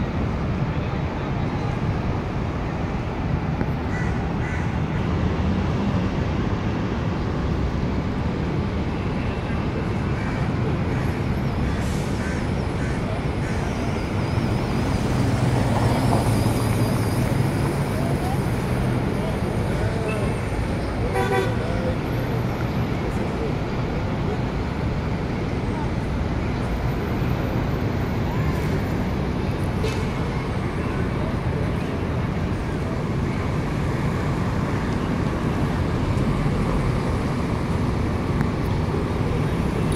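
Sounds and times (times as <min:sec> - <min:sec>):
city traffic rumble: 0:00.0 - 0:39.9.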